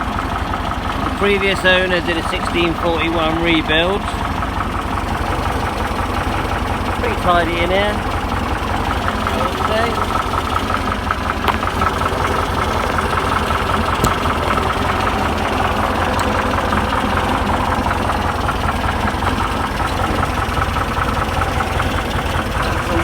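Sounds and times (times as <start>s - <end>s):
air-cooled engine idling: 0.0s - 23.0s.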